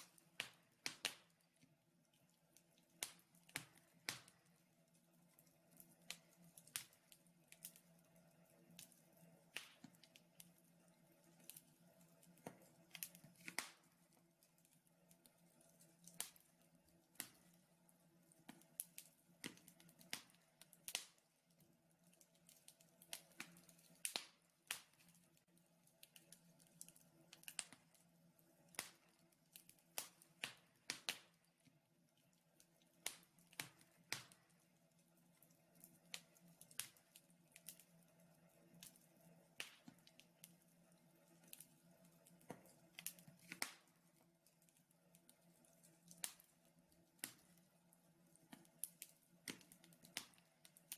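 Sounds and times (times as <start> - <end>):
wood logs crackling in fireplace: 0.0 - 50.9.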